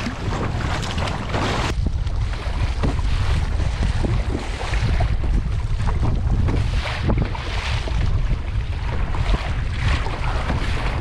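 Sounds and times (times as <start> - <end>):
choppy sea water splashing: 0.0 - 11.0
paddle strokes against kayak: 0.0 - 11.0
wind buffeting microphone: 0.0 - 11.0.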